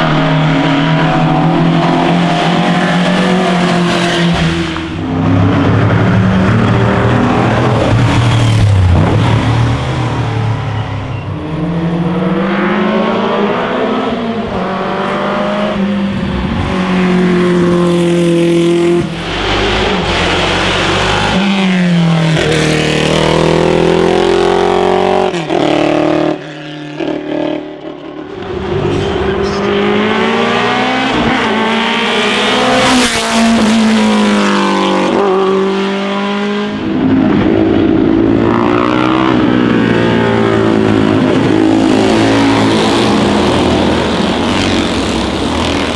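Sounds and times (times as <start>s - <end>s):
racing car engine accelerating: 0.0s - 45.9s.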